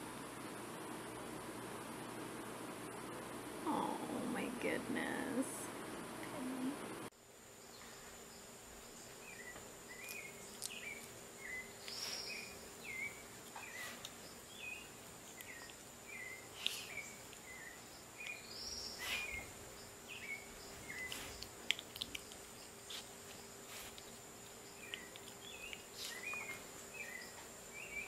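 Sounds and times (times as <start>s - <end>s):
insect-like drone: 0.0s - 28.0s.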